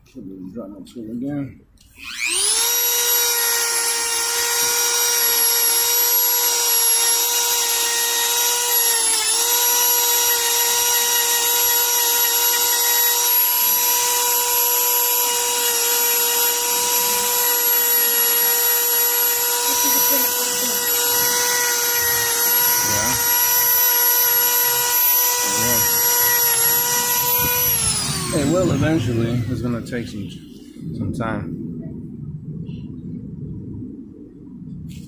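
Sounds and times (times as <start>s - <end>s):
rotary tool high-pitched whine: 1.8s - 30.7s.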